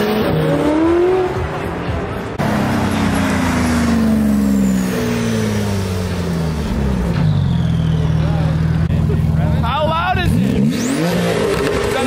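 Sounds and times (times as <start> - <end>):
car engine running loud: 0.0 - 12.0.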